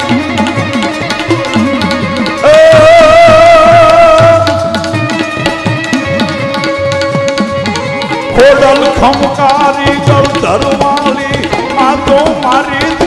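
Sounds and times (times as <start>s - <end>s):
held accompaniment notes: 0.0s - 13.0s.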